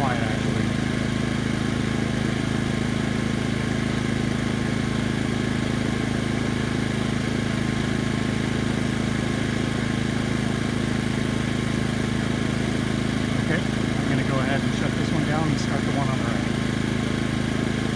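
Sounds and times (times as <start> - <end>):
generator engine hum: 0.0 - 17.9.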